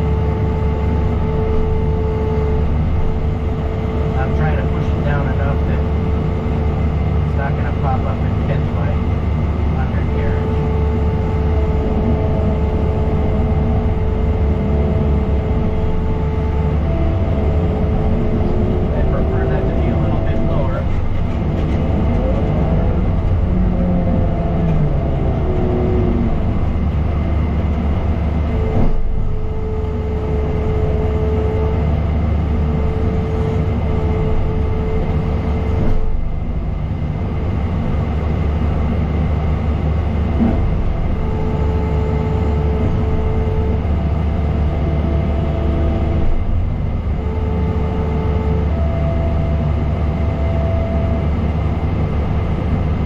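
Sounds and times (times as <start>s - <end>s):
diesel engine running under load: 0.0s - 53.0s
machine whine: 0.0s - 53.0s.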